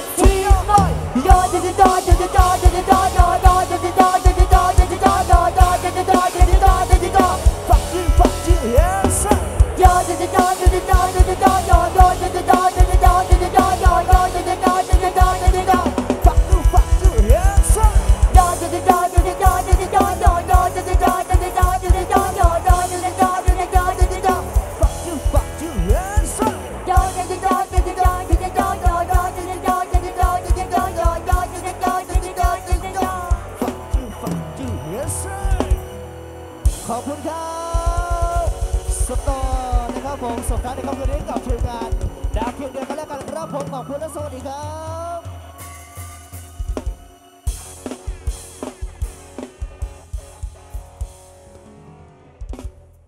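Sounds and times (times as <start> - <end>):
sliding lead notes: 0.0 - 52.6
bass: 0.0 - 53.0
drum kit: 0.0 - 53.0
live pop band music: 0.0 - 53.0.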